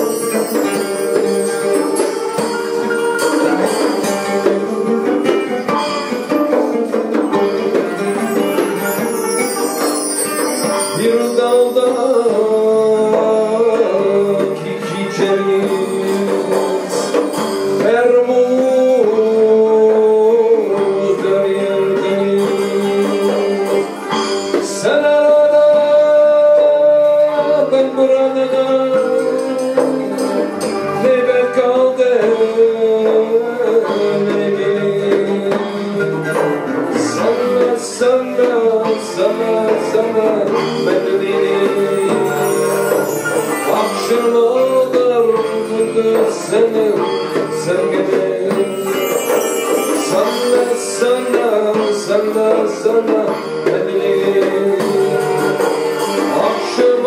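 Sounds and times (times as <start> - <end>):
oud bass and percussion ensemble: 0.0 - 57.0.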